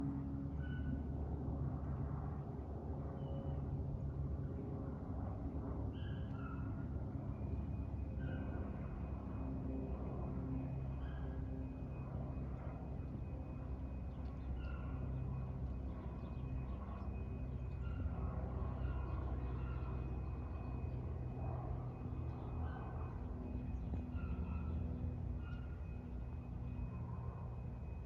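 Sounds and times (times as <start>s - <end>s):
light plane passing overhead: 0.0s - 28.0s.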